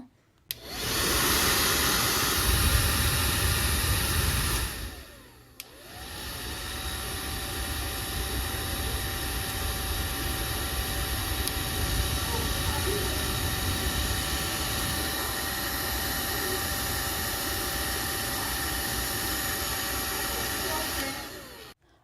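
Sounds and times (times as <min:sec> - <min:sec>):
hair dryer running: 0:00.5 - 0:21.8.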